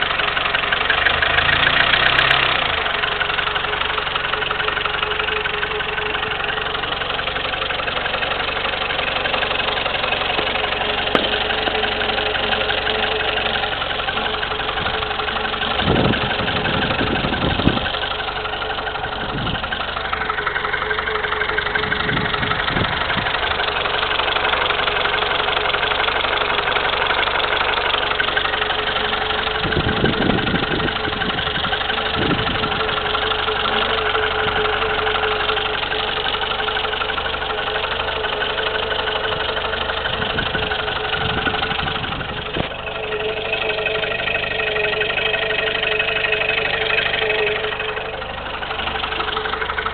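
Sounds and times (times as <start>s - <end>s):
car engine idling with whine: 0.0s - 49.9s.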